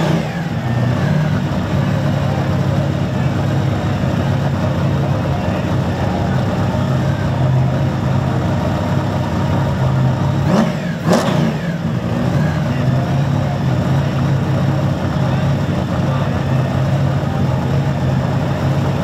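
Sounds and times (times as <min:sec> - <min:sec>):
car engine idling: 0:00.0 - 0:19.0
engine throttle blips: 0:00.0 - 0:19.0.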